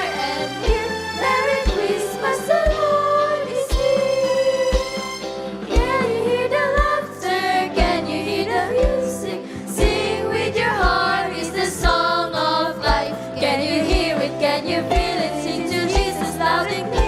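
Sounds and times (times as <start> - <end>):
children's choir singing gospel: 0.0 - 17.0
musical accompaniment: 0.0 - 17.0
steady drum beat: 0.0 - 17.0.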